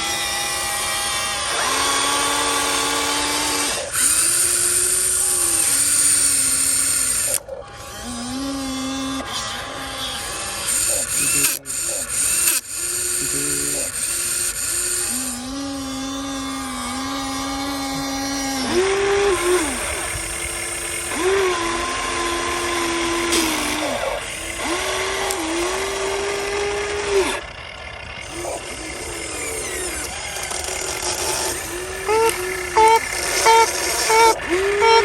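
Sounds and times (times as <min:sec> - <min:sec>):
small electric motors whining: 0:00.0 - 0:35.0.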